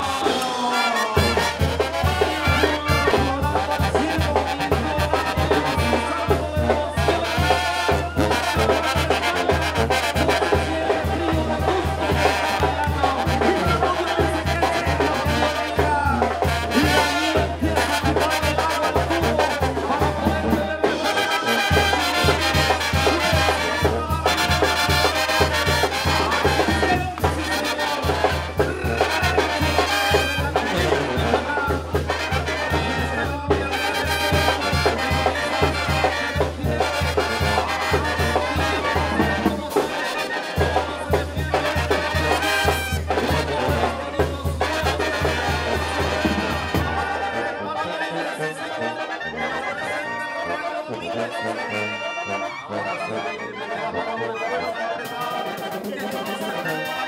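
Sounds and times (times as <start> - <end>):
trumpets and trombones playing: 0.0 - 57.0.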